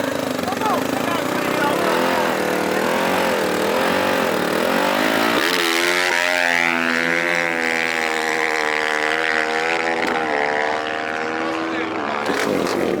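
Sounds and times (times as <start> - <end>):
small racing engine revving: 0.0 - 13.0.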